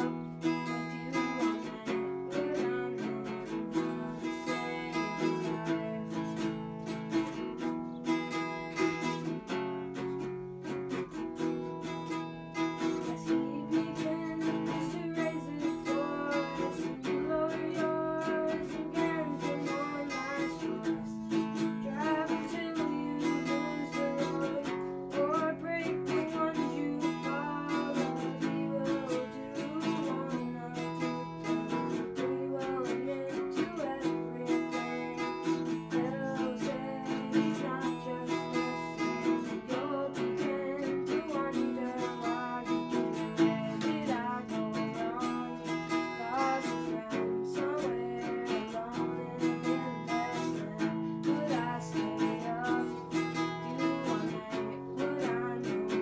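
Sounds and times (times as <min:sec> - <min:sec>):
acoustic guitar strumming: 0:00.0 - 0:56.0
person singing: 0:00.0 - 0:56.0.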